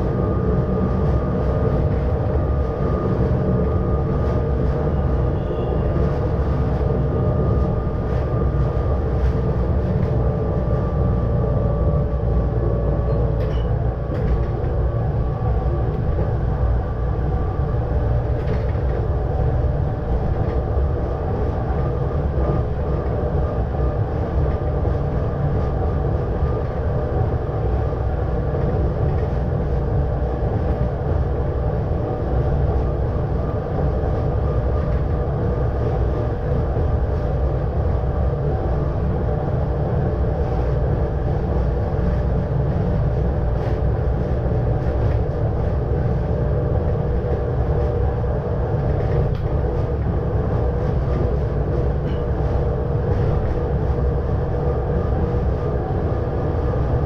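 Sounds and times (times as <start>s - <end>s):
train running gear rumble: 0.0s - 57.0s.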